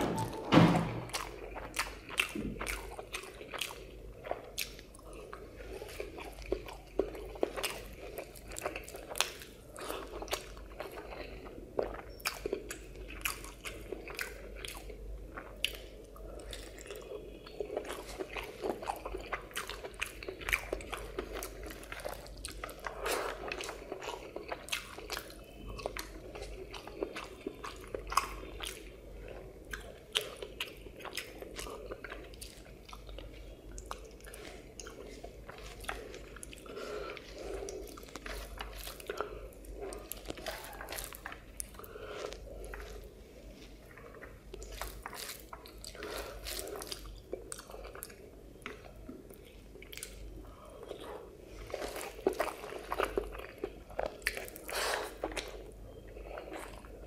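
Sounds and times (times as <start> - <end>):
close chewing: 1.0 - 57.0.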